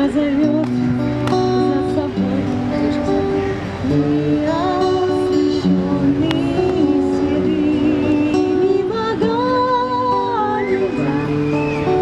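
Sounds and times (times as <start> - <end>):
woman singing: 0.0 - 2.8, 3.8 - 12.0
acoustic guitar: 0.0 - 12.0.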